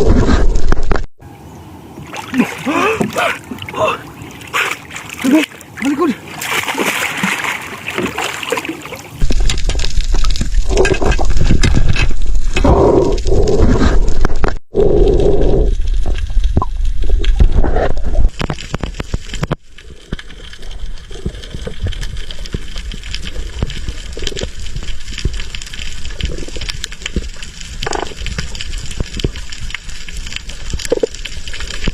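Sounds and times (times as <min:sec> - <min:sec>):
muffled water rumble and sloshing: 0:00.0 - 0:31.9.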